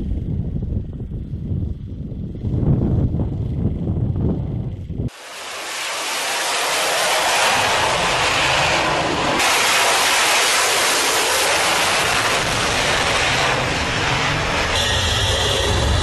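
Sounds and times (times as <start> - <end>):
jet engines at full power: 0.0 - 16.0.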